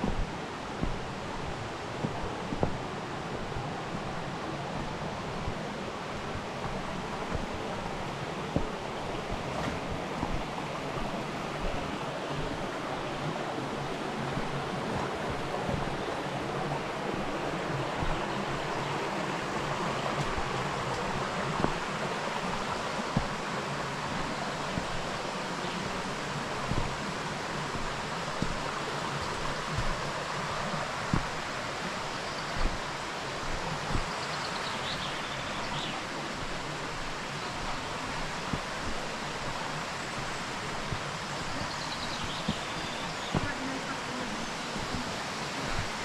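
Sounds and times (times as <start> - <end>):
soft thumps: 0.0 - 4.1, 4.8 - 18.9, 19.9 - 46.0
flowing river water: 0.0 - 46.0.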